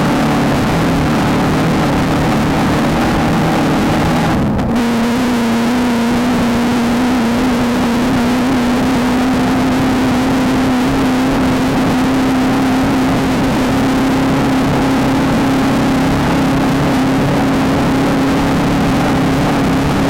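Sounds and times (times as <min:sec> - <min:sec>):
loud rushing noise: 0:00.0 - 0:20.0
race car engine revving high: 0:00.0 - 0:20.0.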